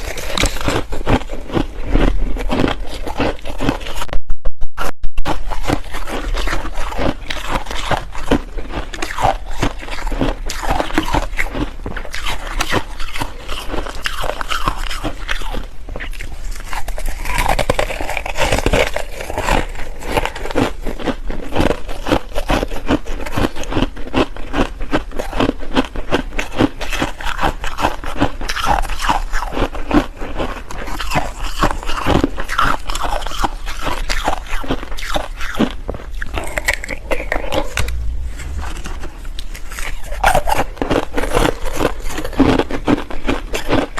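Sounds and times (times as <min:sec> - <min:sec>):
ice crunching being chewed: 0:00.0 - 0:04.1, 0:05.3 - 0:38.6, 0:40.9 - 0:43.9.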